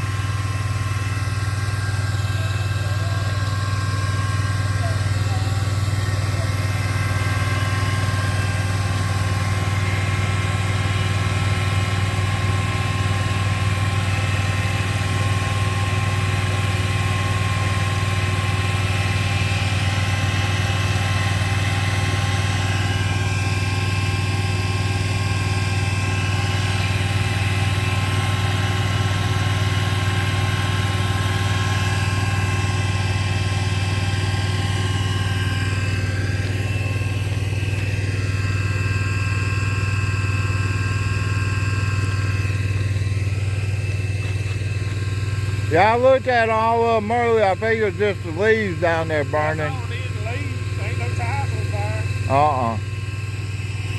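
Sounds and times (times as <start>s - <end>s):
vehicle engine idling: 0.0s - 53.9s.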